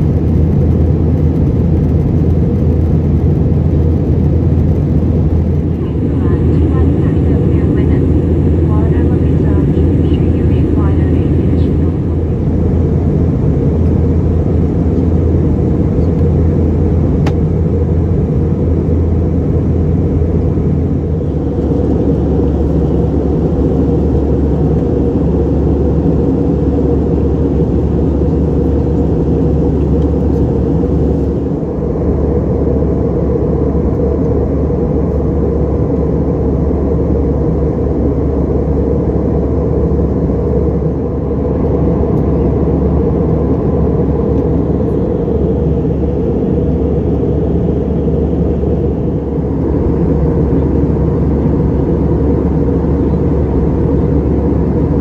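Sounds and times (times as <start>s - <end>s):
aircraft cabin engine rumble: 0.0s - 55.0s
airflow over fuselage: 0.0s - 55.0s.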